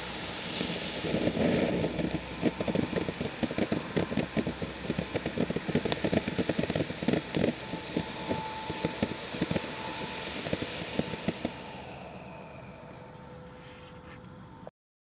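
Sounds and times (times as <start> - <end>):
rapid crackling pops: 0.0 - 12.1
firework fountain hissing: 0.0 - 13.0.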